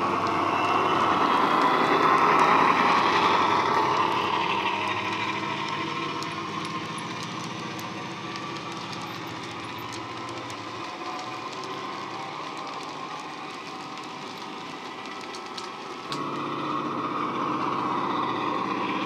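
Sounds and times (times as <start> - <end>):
model locomotive diesel engine sound: 0.0 - 19.0
wagon wheels clicking on track: 0.0 - 19.0.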